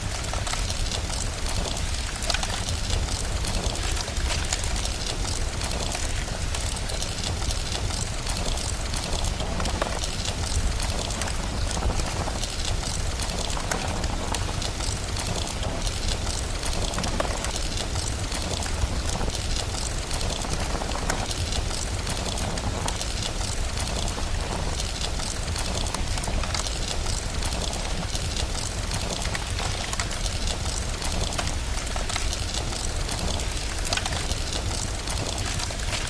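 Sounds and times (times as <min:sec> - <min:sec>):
steady rain: 0:00.0 - 0:36.0
wood fire crackling: 0:00.0 - 0:36.0.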